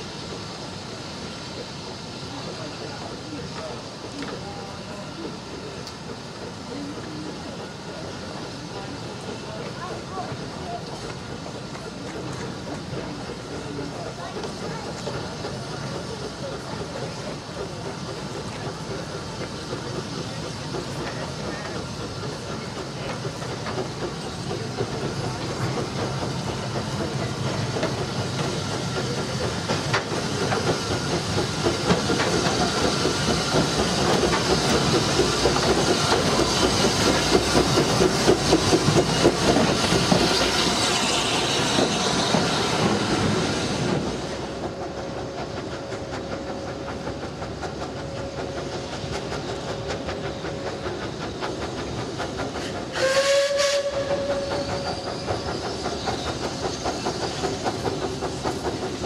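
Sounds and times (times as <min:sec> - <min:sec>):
steam hissing: 0:00.0 - 0:59.0
train wheels clacking on rails: 0:00.0 - 0:59.0.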